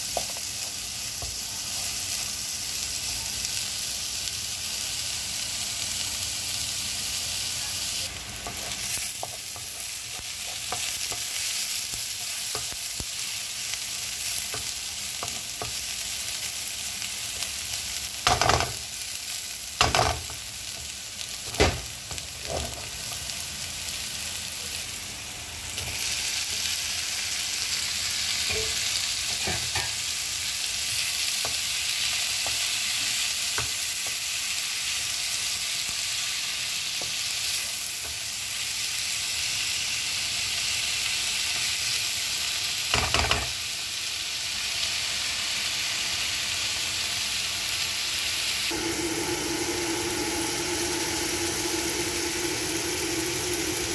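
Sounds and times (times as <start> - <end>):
onions sizzling in hot oil: 0.0 - 53.9.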